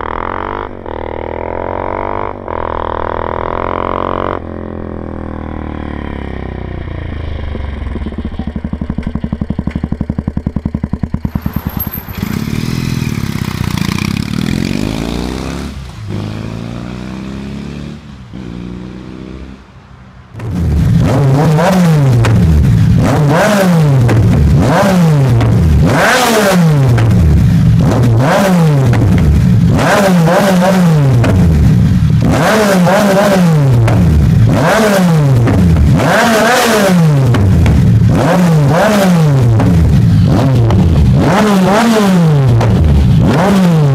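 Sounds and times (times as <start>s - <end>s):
single-cylinder motorcycle exhaust: 0.0s - 19.6s, 20.4s - 43.9s
twin-cylinder motorcycle exhaust: 0.0s - 19.6s, 20.4s - 43.9s
three-cylinder motorcycle revving: 0.0s - 43.9s.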